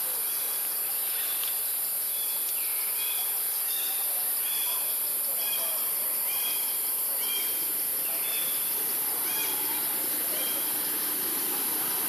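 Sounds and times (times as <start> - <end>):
high-pitched insect drone: 0.1 - 12.0.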